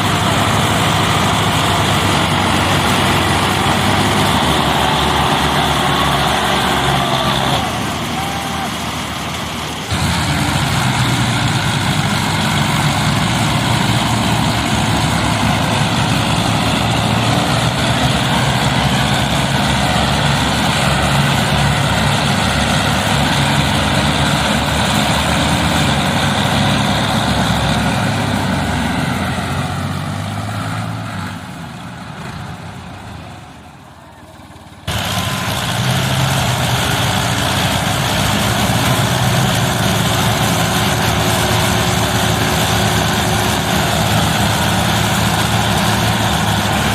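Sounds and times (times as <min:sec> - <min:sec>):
tractor diesel engine under load: 0:00.0 - 0:46.9.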